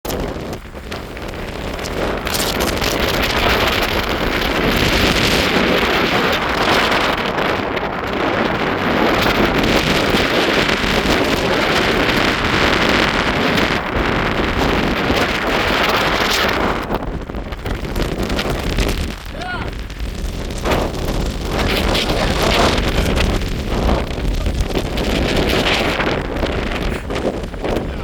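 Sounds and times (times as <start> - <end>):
strong wind on microphone: 0.0 - 28.0.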